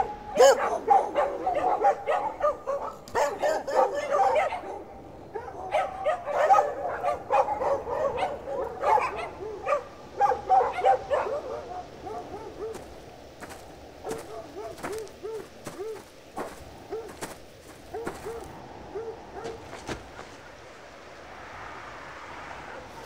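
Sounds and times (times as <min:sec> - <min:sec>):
dogs barking: 0:00.0 - 0:20.0.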